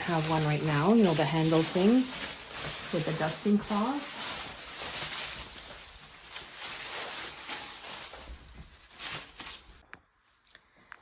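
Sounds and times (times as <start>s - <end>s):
leaves rustling under wet cloth: 0.0s - 9.8s.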